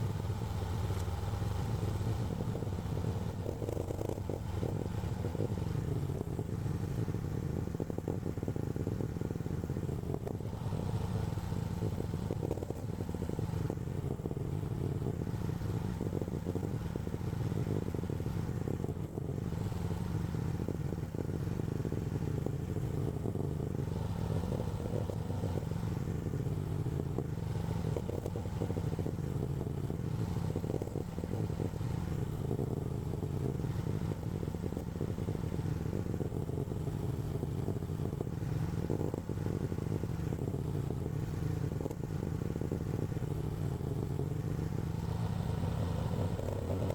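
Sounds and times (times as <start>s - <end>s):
excavator engine running: 0.0s - 46.9s
light intermittent clatter: 0.0s - 46.9s.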